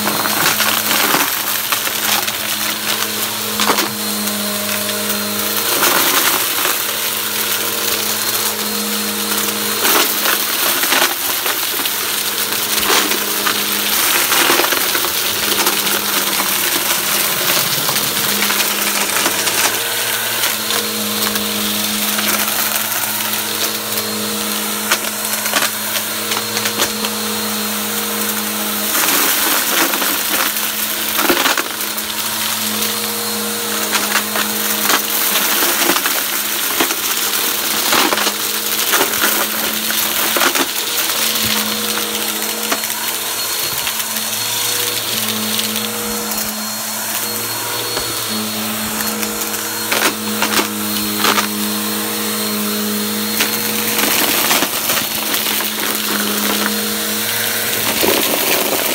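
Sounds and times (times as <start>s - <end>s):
debris clicking in vacuum: 0.0s - 58.9s
vacuum cleaner running: 0.0s - 58.9s.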